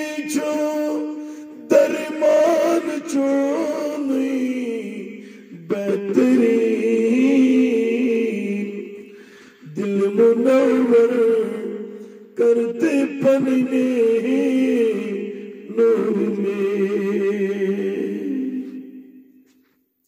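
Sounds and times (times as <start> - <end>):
man chanting: 0.0 - 9.0, 9.6 - 19.1.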